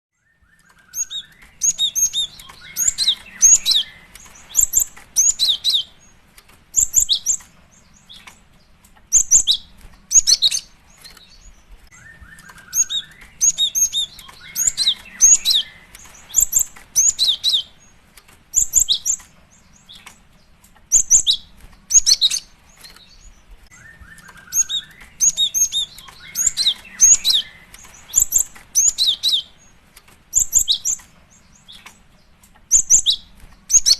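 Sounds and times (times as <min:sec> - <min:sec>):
bird chirping high and sharp: 0:00.2 - 0:08.3, 0:09.1 - 0:20.2, 0:20.9 - 0:33.9.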